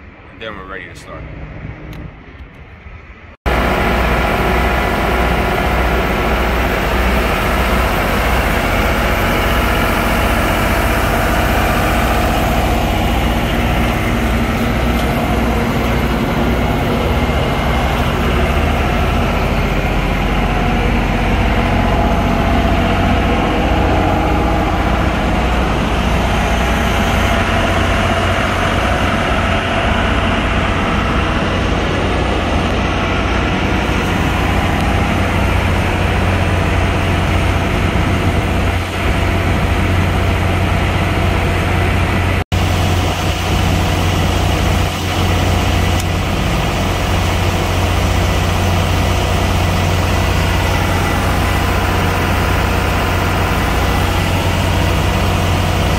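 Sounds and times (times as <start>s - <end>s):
diesel generator running: 3.4s - 55.9s.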